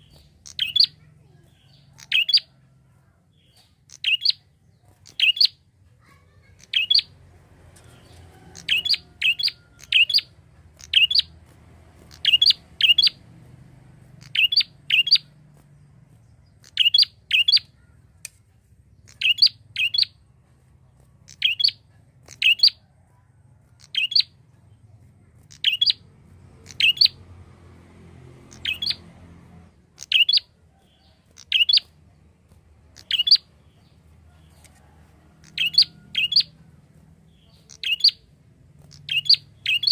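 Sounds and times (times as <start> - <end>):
bird chirping: 0.0 - 22.9, 23.7 - 39.9.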